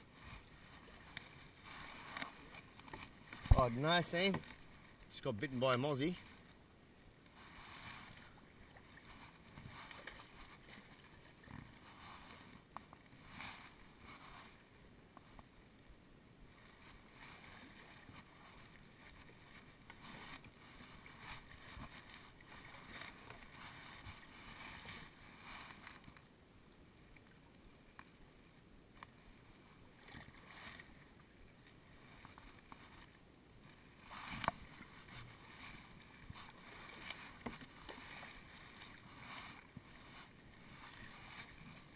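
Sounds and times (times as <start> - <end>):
kayak paddle strokes in water: 0.0 - 41.9.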